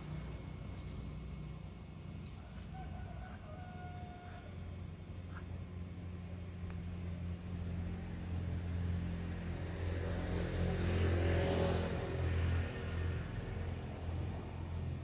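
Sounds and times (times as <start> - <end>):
passing vehicle rumble: 0.0 - 15.0
steady low hum: 0.0 - 15.0.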